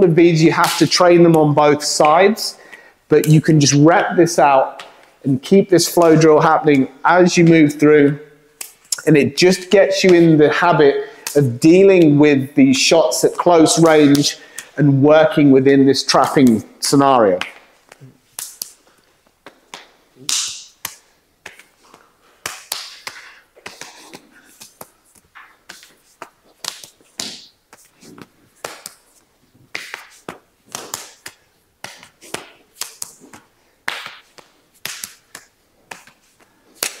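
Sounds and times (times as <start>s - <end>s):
palms slapping forearms: 0.0s - 12.2s, 12.9s - 14.8s, 16.1s - 37.0s.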